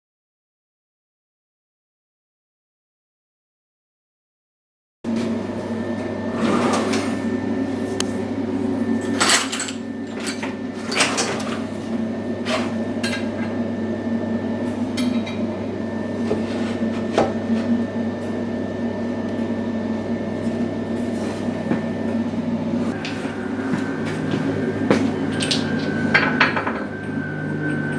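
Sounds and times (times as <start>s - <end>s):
loom motors whining: 5.1s - 27.9s.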